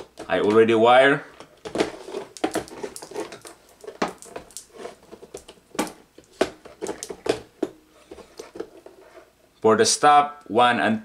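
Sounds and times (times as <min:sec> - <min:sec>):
wires rustling: 0:00.0 - 0:09.6.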